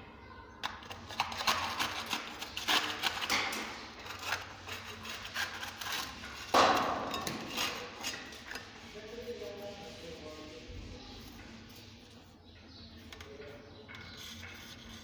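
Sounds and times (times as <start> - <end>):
putty knife scraping wall: 0.9 - 12.0, 14.0 - 15.0.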